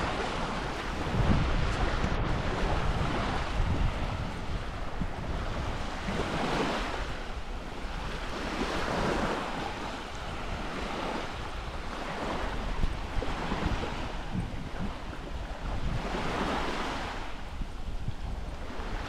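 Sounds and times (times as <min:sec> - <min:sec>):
small waves washing onto beach: 0:00.0 - 0:19.0
wind rumbling on microphone: 0:00.0 - 0:19.0.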